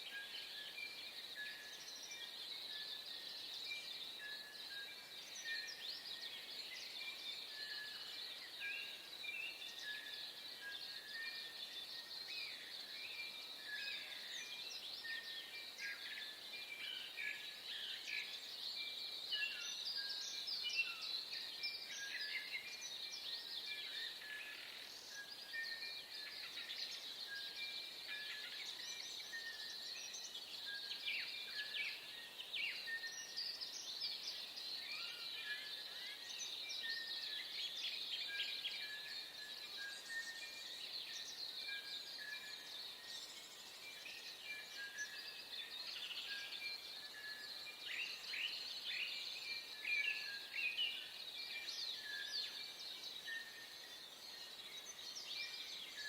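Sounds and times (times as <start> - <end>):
birds singing and calling: 0.0 - 56.0.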